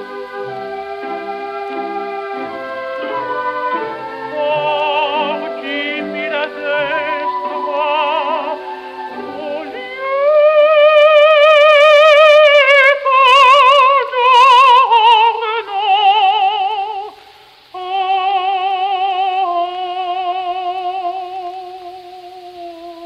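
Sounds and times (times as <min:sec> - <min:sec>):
soprano singing opera: 0:00.0 - 0:23.0.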